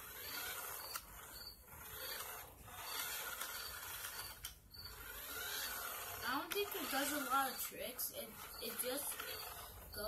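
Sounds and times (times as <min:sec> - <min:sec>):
toy truck motor whirring: 0:00.0 - 0:10.0.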